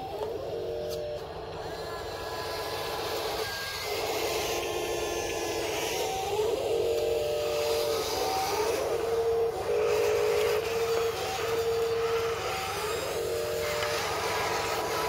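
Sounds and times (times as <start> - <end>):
toy electric motor and gears whining: 0.0 - 15.0.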